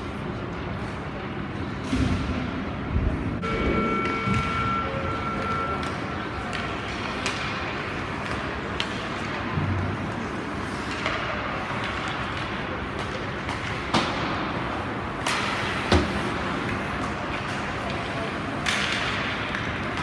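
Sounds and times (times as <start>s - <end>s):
hockey sticks and puck clacking: 3.5s - 20.0s.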